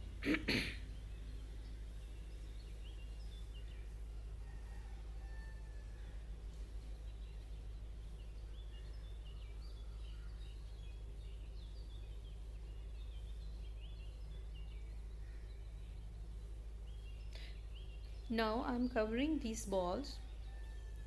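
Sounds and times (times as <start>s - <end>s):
small birds chirping: 0.0s - 21.0s
steady low room hum: 0.0s - 21.0s.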